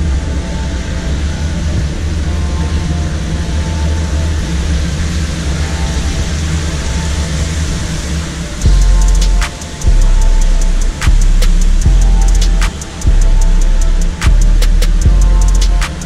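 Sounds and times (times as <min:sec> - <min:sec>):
low rumble of background noise: 0:00.0 - 0:16.0
music: 0:00.0 - 0:16.0.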